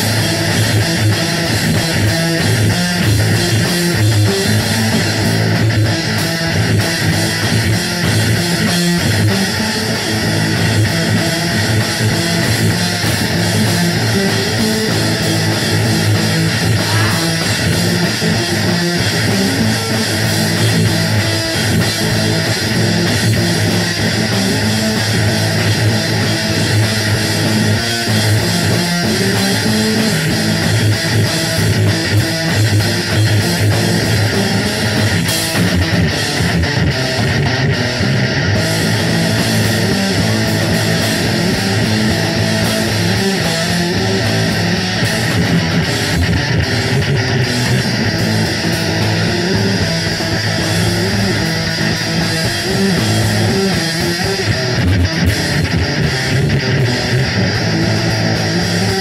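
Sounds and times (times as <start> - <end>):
live heavy band playing: 0.0 - 59.0.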